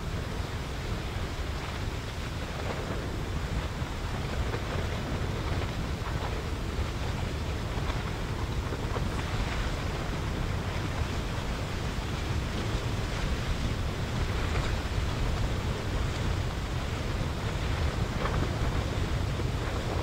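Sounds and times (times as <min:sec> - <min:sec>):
lava river rushing rumble: 0:00.0 - 0:20.0
wind buffeting microphone: 0:00.0 - 0:20.0.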